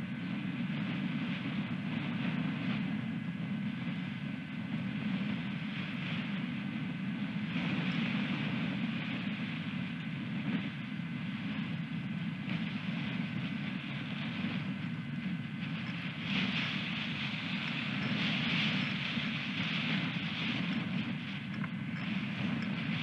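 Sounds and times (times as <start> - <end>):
storm wind on microphone: 0.0 - 23.0.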